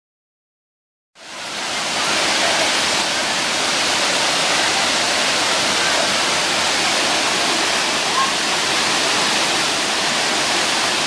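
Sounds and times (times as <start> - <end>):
rushing water: 1.2 - 11.0.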